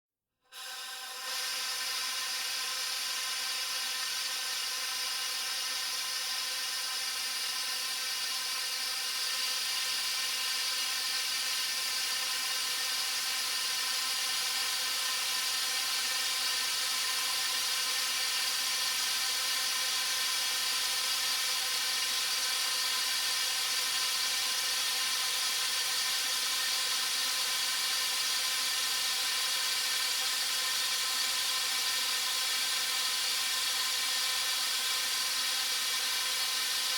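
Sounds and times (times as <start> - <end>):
air hissing through a pipe: 0.5 - 36.9.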